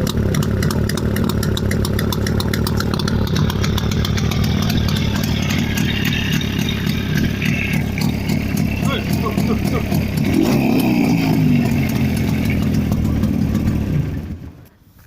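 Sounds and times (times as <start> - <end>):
two-stroke motorcycle engine idling: 0.0 - 14.7.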